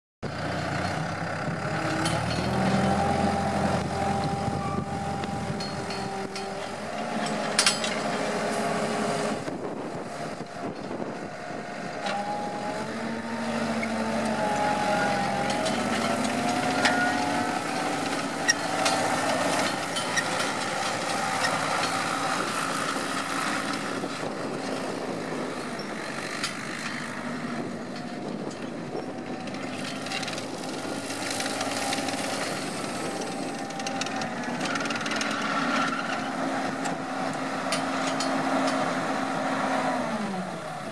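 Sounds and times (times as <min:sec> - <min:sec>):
diesel engine running: 0:00.2 - 0:40.9.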